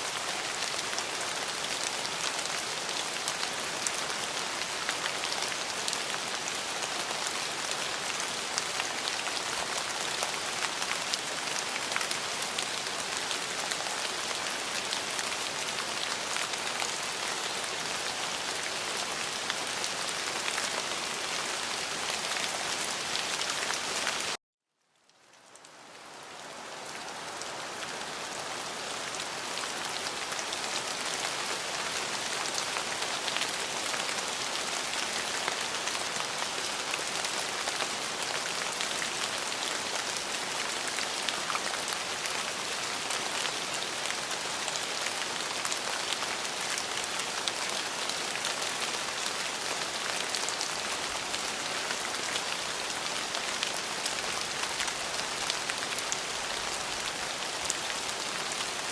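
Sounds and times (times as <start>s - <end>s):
rain falling: 0.0s - 24.4s, 25.0s - 58.9s.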